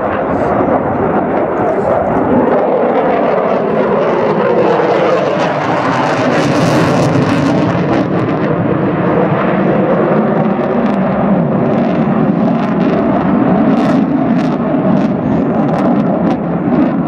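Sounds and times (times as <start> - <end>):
aircraft flying past: 0.0 - 17.0.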